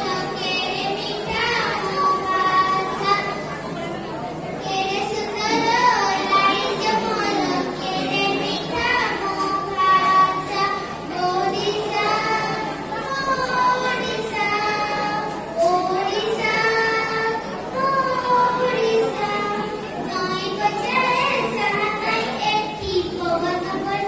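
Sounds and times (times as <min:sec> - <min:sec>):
child singing into microphone: 0:00.0 - 0:24.0.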